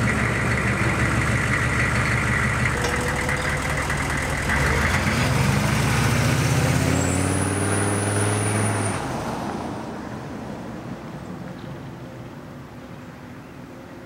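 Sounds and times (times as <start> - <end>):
diesel truck accelerating past: 0.0 - 11.9.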